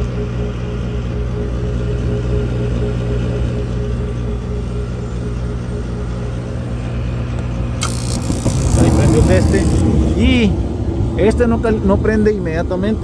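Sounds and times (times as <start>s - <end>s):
inducer motor humming: 0.0s - 13.0s.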